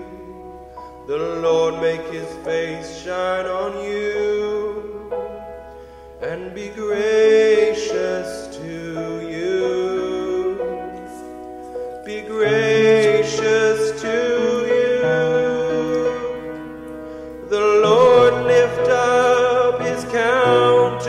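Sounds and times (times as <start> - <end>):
slow worship music: 0.0 - 21.0.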